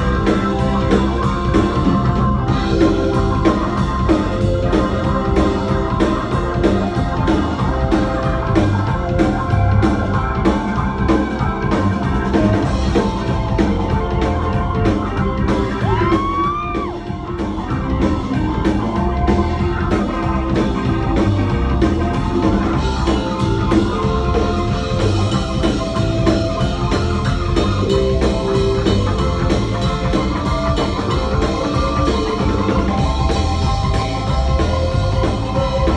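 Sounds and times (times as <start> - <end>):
live rock band playing: 0.0 - 35.9.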